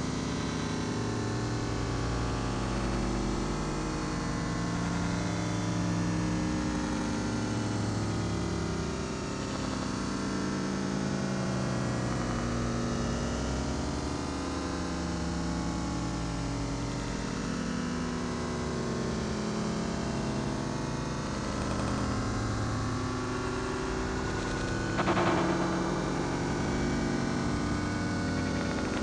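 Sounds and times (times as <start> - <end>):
droning synthesizer notes: 0.0 - 29.0.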